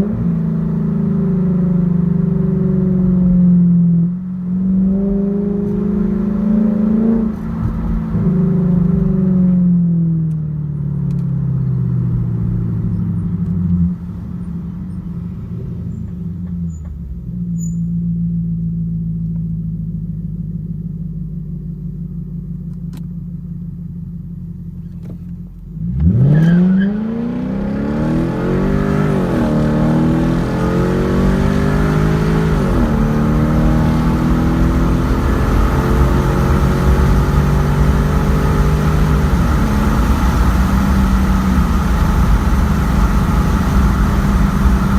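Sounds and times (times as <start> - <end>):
car exhaust accelerating: 0.0 - 44.9.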